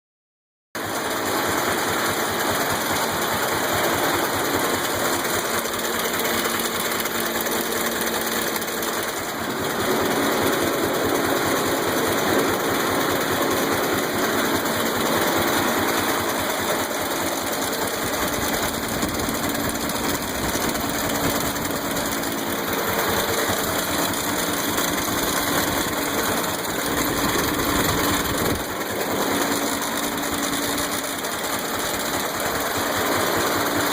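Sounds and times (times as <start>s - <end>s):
old engine putting: 0.8s - 33.9s.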